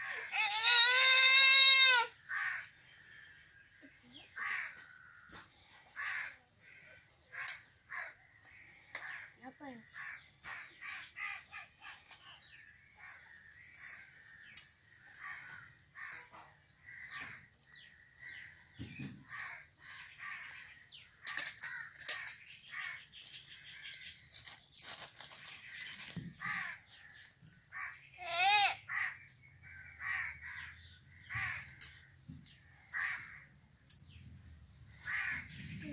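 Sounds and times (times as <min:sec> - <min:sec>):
birds calling: 0:00.0 - 0:35.9.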